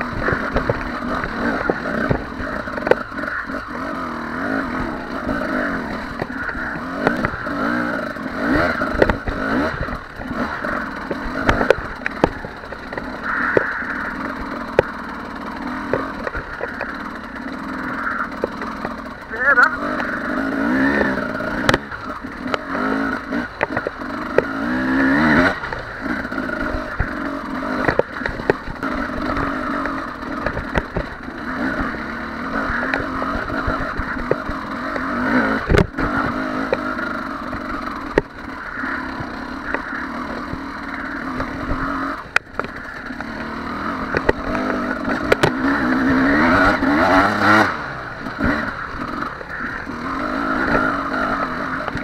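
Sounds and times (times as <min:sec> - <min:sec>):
two-stroke motorcycle revving: 0:00.0 - 0:52.0.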